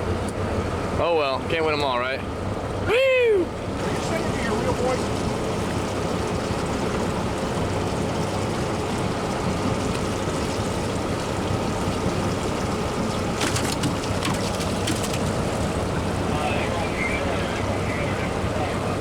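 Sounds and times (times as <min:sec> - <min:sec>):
boat motor running: 0:00.0 - 0:19.0
water rushing: 0:02.7 - 0:19.0.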